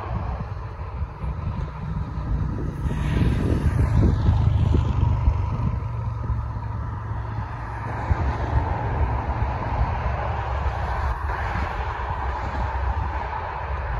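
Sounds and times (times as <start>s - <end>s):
jet engines rumble and whine: 0.0s - 13.9s
wind buffeting microphone: 0.0s - 13.9s.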